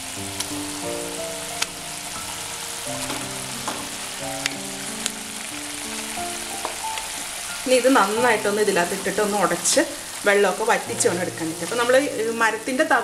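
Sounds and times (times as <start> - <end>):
mixture sizzling in a pan: 0.0 - 13.0
soft background music: 0.0 - 13.0.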